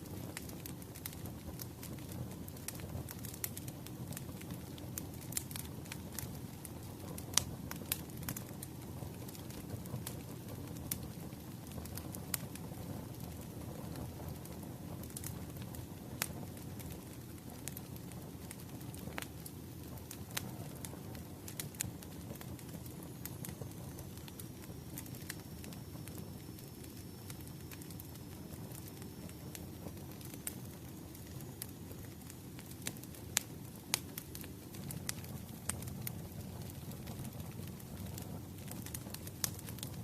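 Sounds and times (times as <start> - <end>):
crackles and pops from logs: 0.0 - 40.0
firewood burning: 0.0 - 40.0.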